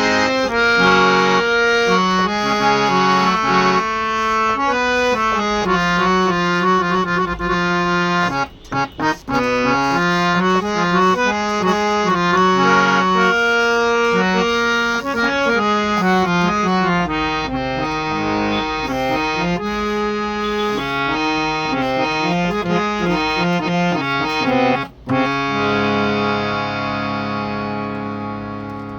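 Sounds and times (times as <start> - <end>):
harmonium melody: 0.0 - 28.9.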